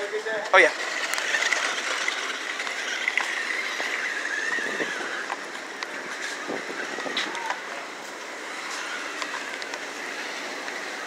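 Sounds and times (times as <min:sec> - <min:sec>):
toy car electric motor whine: 0:00.5 - 0:11.0.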